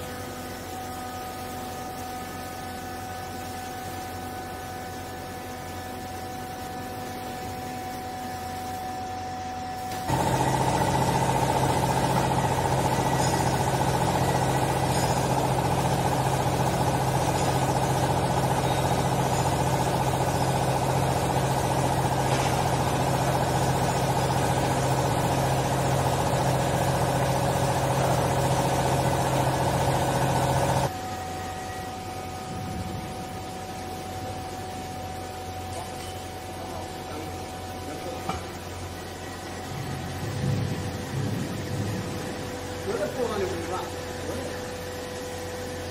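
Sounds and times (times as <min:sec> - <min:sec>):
electric motor and hydraulic pump: 0:00.0 - 0:45.9.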